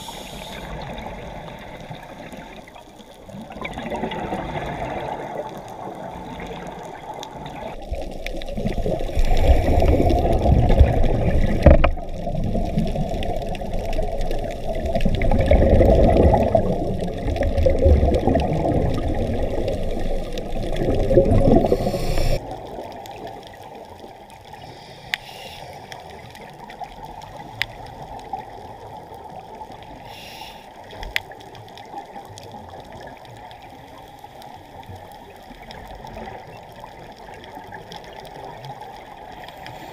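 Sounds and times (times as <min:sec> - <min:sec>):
low steady hiss: 0:00.0 - 0:39.9
underwater rushing and gurgling: 0:00.0 - 0:39.9.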